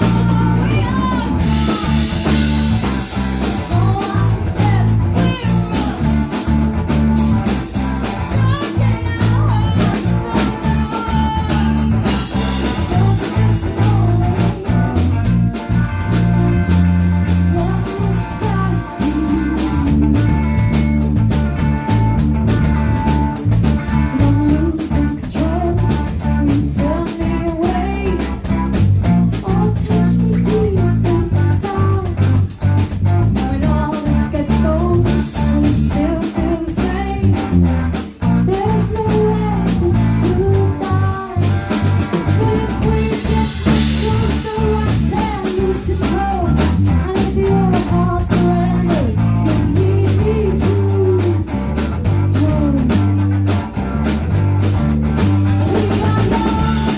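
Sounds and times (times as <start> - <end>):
electric guitar melody: 0.0 - 56.9
live rock band playing: 0.0 - 56.9.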